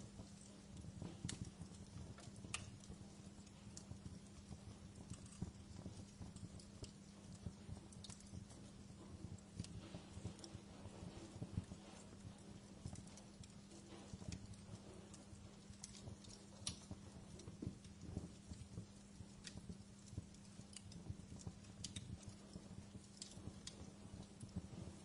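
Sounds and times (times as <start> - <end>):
low fire rumble: 0.0 - 25.0
steady low hum: 0.0 - 25.0
wood fire popping and snapping: 0.0 - 25.0.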